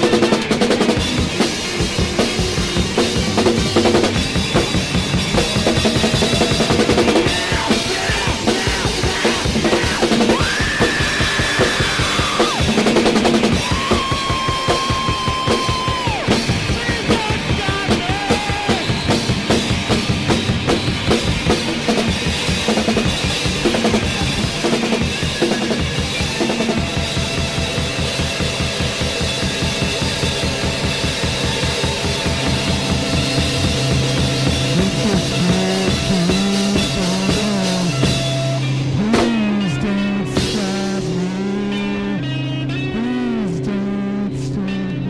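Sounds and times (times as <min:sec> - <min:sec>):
drum kit beat: 0:00.0 - 0:41.4
rock band playing: 0:00.0 - 0:45.0.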